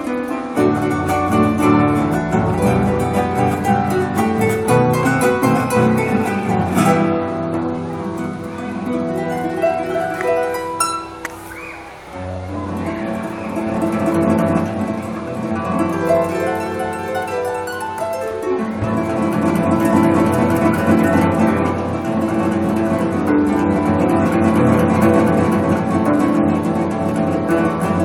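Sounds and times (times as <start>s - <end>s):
plucked string instrument music: 0.0s - 28.0s.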